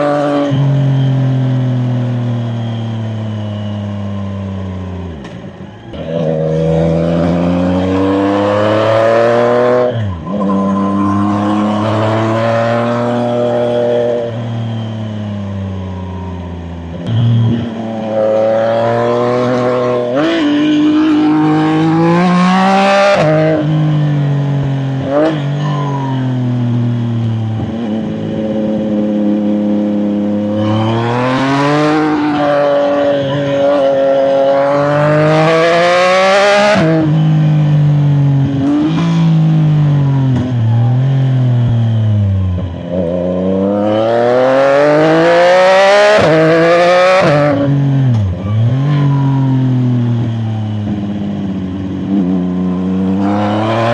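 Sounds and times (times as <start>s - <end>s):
motorcycle engine accelerating: 0.0s - 25.6s, 26.2s - 53.9s.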